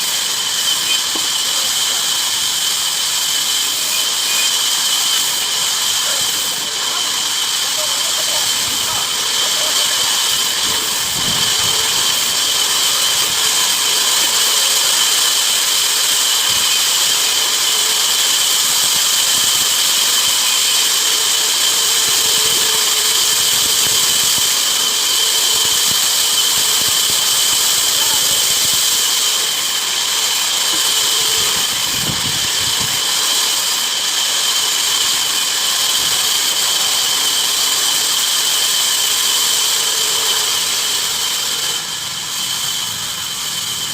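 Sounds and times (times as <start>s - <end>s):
band saw cutting wood: 0.0s - 43.9s.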